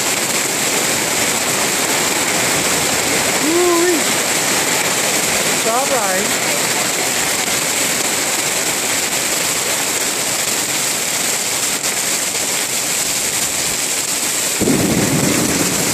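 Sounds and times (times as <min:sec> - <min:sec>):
heavy hail and rain: 0:00.0 - 0:15.9.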